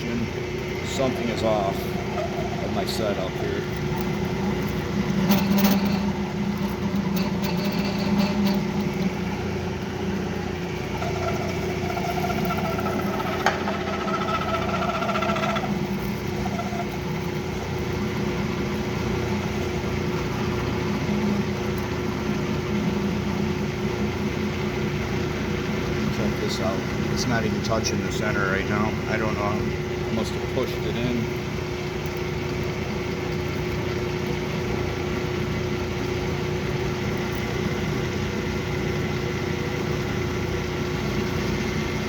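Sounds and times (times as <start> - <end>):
metal lathe humming: 0.0 - 42.0.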